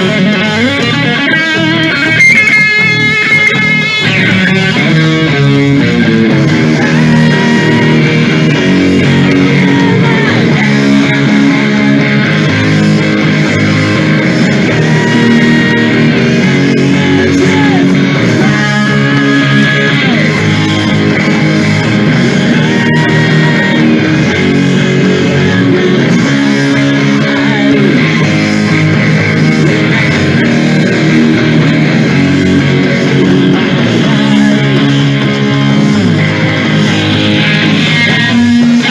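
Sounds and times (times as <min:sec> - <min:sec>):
hard rock music: 0:00.0 - 0:38.9.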